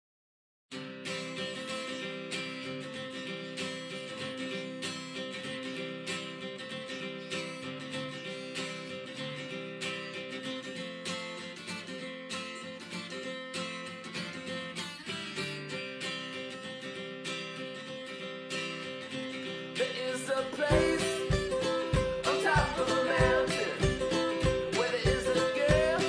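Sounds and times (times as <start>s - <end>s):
strummed guitar music: 0.7s - 26.0s.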